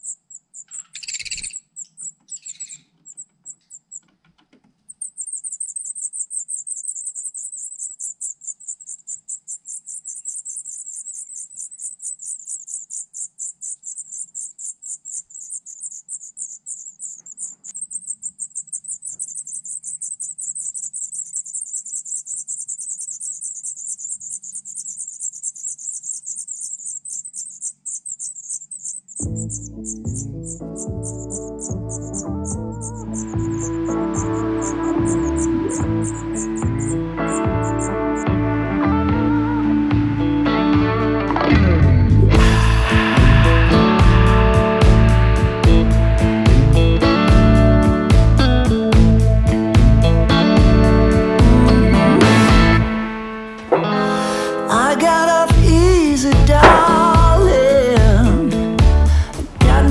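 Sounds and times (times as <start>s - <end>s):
nestlings begging calls: 0.0s - 4.0s, 4.9s - 39.8s, 42.4s - 52.8s, 53.8s - 59.9s.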